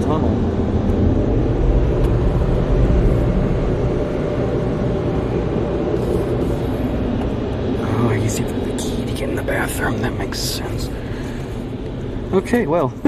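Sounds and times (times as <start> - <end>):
car engine rumble: 0.0 - 13.0
road noise inside car: 0.0 - 13.0.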